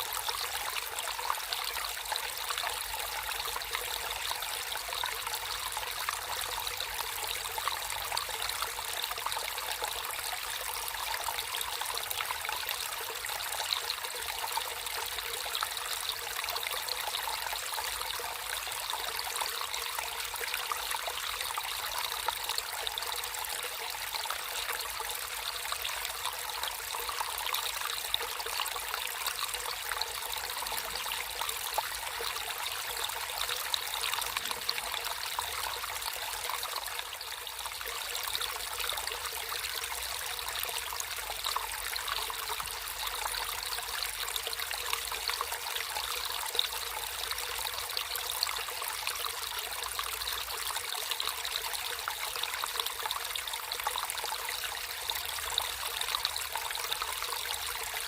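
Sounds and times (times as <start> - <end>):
stream water trickling: 0.0 - 58.0.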